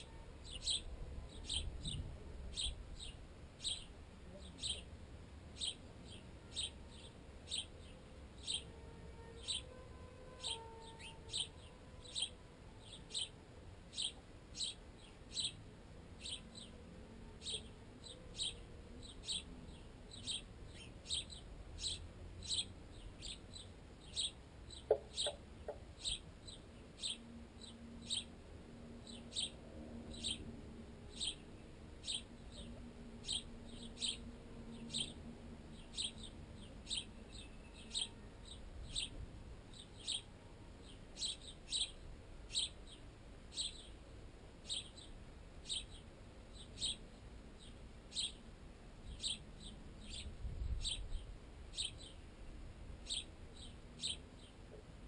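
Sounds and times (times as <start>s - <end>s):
sparrow chirping: 0.0s - 4.9s, 5.5s - 15.6s, 16.2s - 16.8s, 17.4s - 28.4s, 29.0s - 48.4s, 49.0s - 52.2s, 53.0s - 54.7s.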